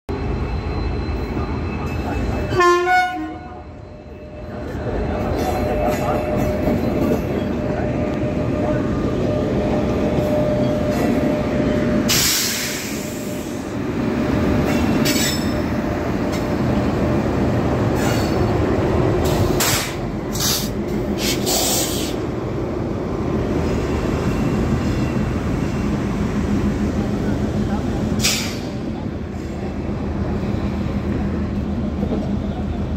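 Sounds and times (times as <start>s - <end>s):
train wheels rumbling on rails: 0.2s - 32.9s.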